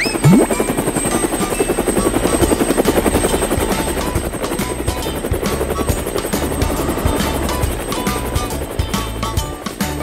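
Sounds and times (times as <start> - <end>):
helicopter rotor chopping: 0.0 - 10.0
light background music: 0.2 - 10.0.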